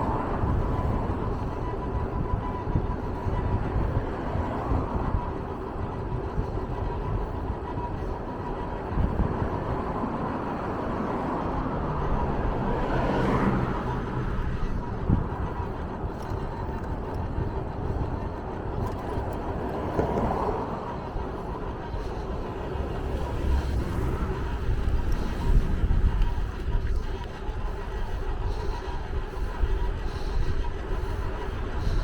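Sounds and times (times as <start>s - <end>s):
faint steady whine: 0.0s - 32.0s
vehicle running: 0.0s - 32.0s.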